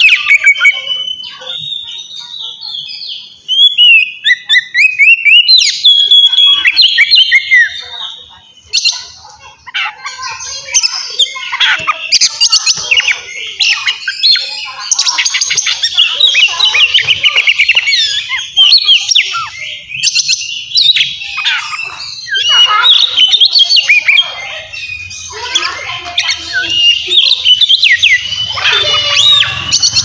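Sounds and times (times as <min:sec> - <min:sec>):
bird singing varied song: 0:00.0 - 0:30.0.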